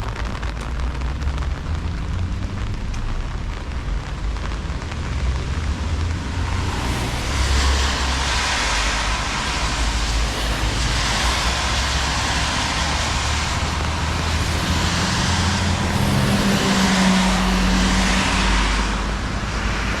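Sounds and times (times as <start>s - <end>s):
rain and tyres hissing: 0.0s - 20.0s
vehicle engine hum: 0.1s - 20.0s.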